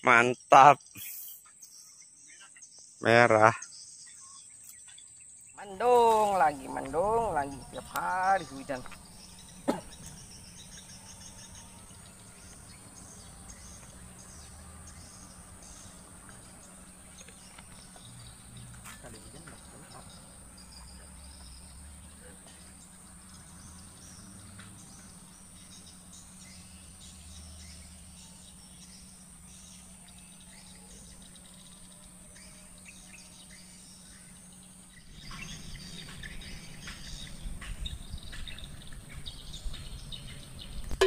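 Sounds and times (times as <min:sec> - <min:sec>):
faint bird chirps: 0:00.0 - 0:41.0
insects droning: 0:00.0 - 0:41.0.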